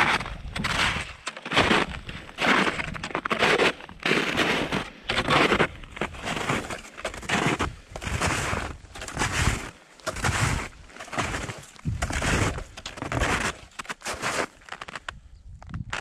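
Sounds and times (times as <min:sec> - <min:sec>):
footsteps crunching in snow: 0:00.0 - 0:15.2, 0:15.8 - 0:16.0.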